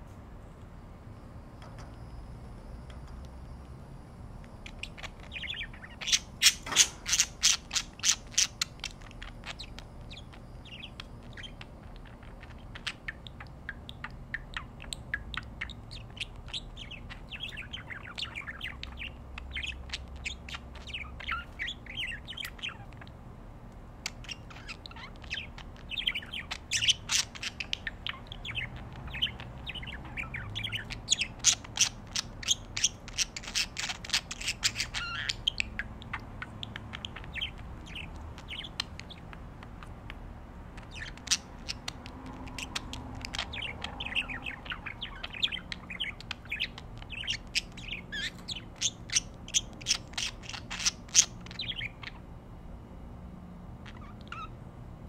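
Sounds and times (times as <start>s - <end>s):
budgerigars chattering: 4.6s - 23.1s, 24.0s - 52.3s.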